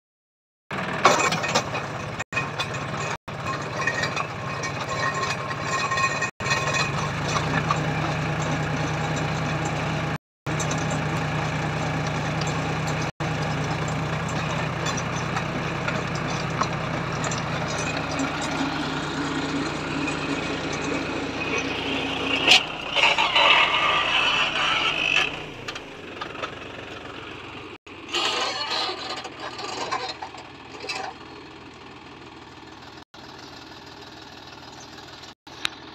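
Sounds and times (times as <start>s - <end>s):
tractor engine under load: 0.7s - 35.9s.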